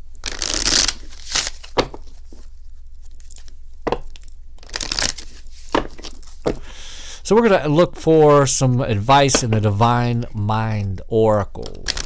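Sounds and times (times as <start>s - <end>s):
cards being shuffled: 0.2s - 10.0s, 11.5s - 12.0s.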